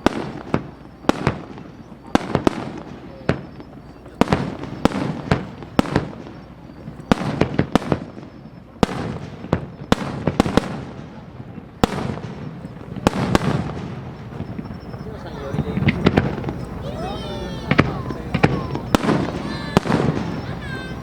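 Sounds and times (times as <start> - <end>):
fireworks bangs with rumbling echo: 0.0 - 21.0.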